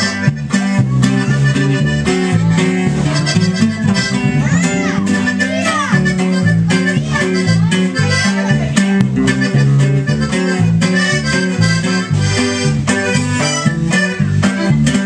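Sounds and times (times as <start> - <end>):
accordion melody: 0.0 - 15.0
live band playing: 0.0 - 15.0.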